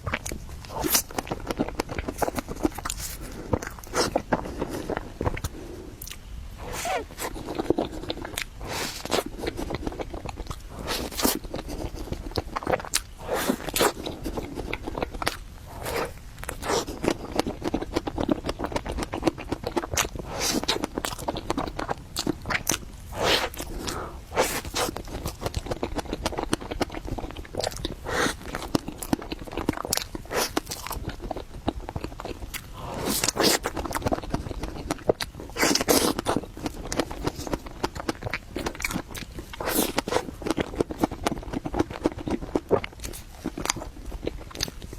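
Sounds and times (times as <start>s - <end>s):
close-miked chewing: 0.0s - 44.9s.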